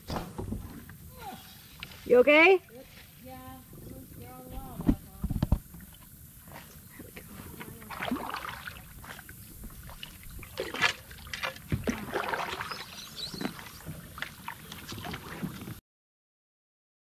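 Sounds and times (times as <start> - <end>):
paddle splashing in water: 1.5 - 15.8.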